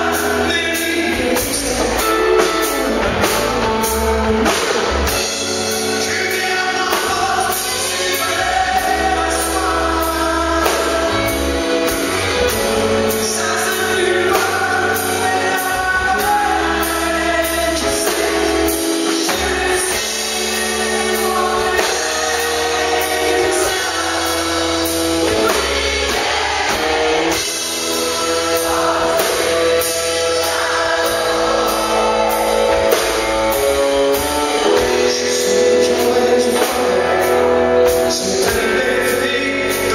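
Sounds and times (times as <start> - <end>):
live rock band: 0.0 - 39.9
male lead singer: 0.0 - 39.9.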